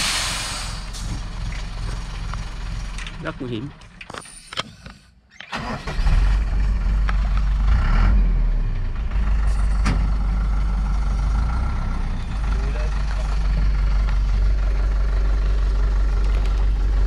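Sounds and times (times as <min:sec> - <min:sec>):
diesel truck engine rumbling: 0:00.0 - 0:04.8, 0:05.5 - 0:17.0.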